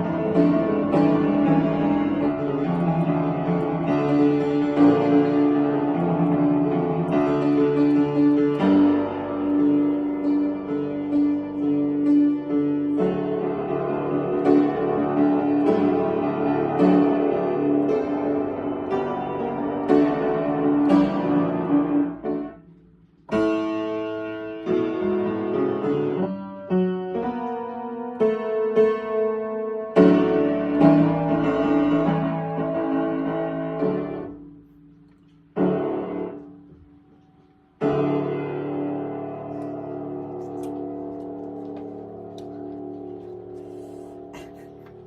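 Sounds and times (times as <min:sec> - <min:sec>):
solo piano playing: 0:00.0 - 0:45.0.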